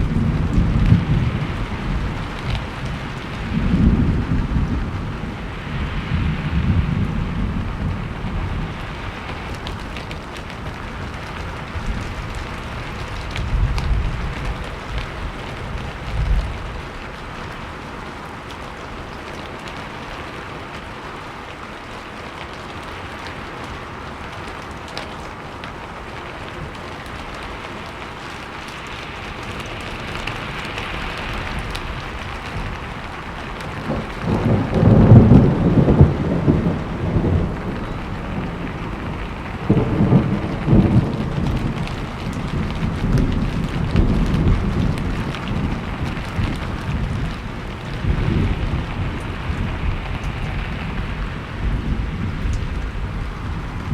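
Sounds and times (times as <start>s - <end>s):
low thunder rumbling: 0.0s - 21.1s, 26.1s - 53.9s
steady rain: 0.0s - 53.9s.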